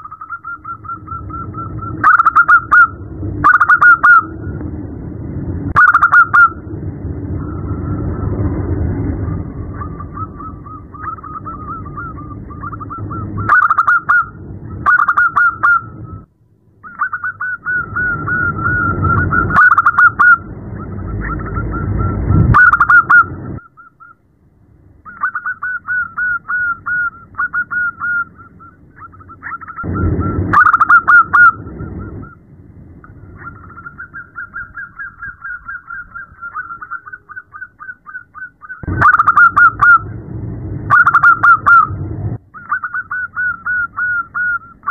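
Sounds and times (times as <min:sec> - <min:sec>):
dove cooing: 0:00.0 - 0:04.4, 0:05.8 - 0:06.6, 0:09.5 - 0:16.2, 0:16.8 - 0:24.2, 0:25.0 - 0:32.4, 0:33.1 - 0:40.1, 0:40.9 - 0:44.9.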